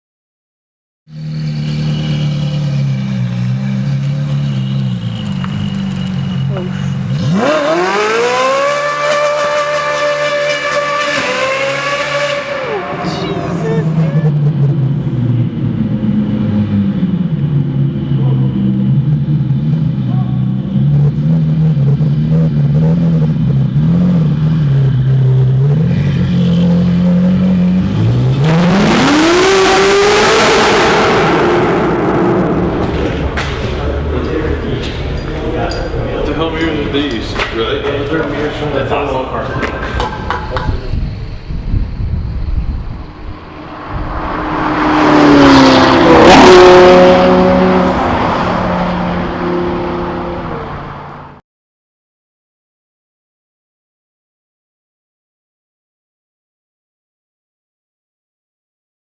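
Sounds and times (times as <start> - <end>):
sports car engine revving: 1.1 - 51.4.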